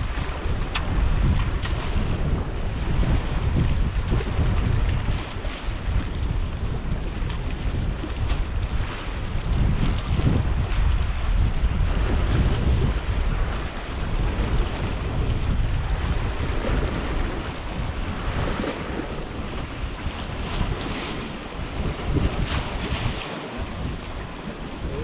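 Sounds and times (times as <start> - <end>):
sea waves washing: 0.0 - 25.0
wind buffeting microphone: 0.0 - 25.0.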